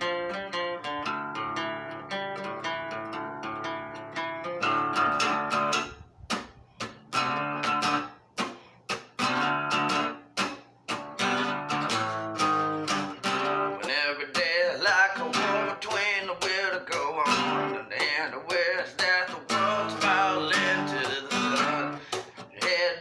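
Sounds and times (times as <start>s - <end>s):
guitar picked notes and strummed chords: 0.0s - 23.0s.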